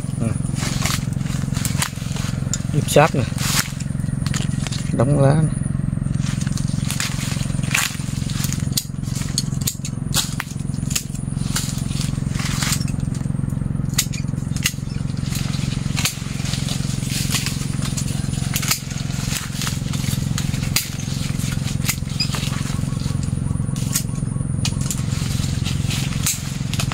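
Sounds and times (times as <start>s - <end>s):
pruning shears snapping: 0.0s - 5.2s, 6.0s - 26.9s
leaves and branches rustling: 0.0s - 26.9s
steady low hum: 0.0s - 26.9s
twigs cracking: 0.0s - 26.9s.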